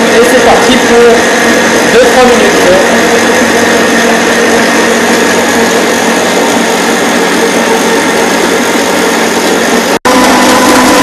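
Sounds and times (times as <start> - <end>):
stand mixer kneading dough: 0.0 - 11.0.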